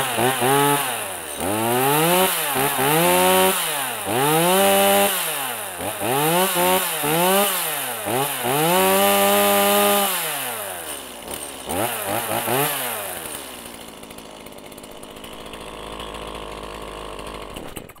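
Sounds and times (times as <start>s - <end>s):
chainsaw engine revving: 0.0s - 18.0s.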